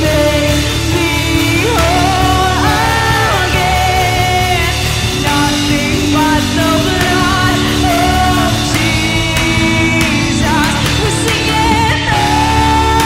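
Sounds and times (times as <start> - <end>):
electric bass: 0.0 - 13.0
woman singing into a microphone: 0.0 - 13.0.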